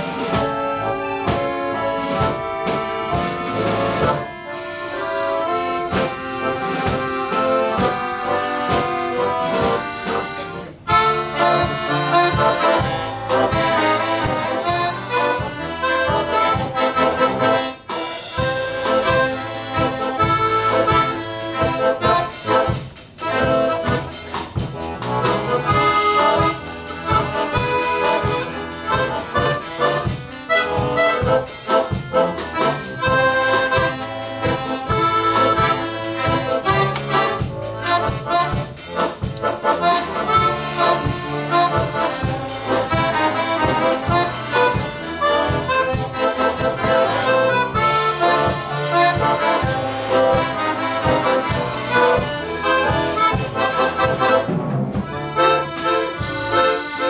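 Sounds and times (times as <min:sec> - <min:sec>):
accordion orchestra playing: 0:00.0 - 0:57.0.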